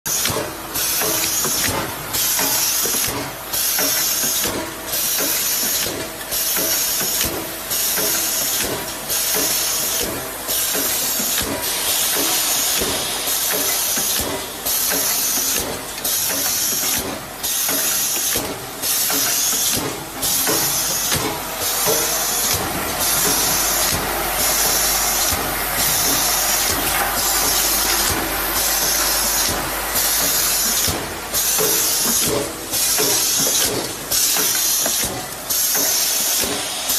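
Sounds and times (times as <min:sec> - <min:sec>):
pneumatic air hiss: 0:00.1 - 0:36.9.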